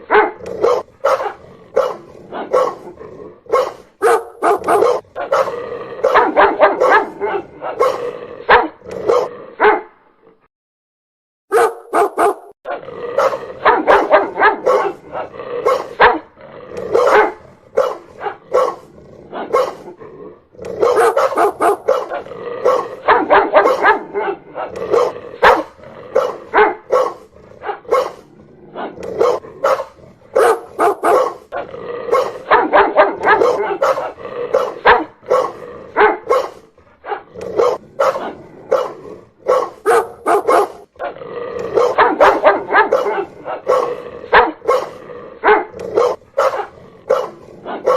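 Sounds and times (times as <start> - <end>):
dog barking loudly: 0.0 - 9.9, 11.5 - 20.0, 20.6 - 47.9.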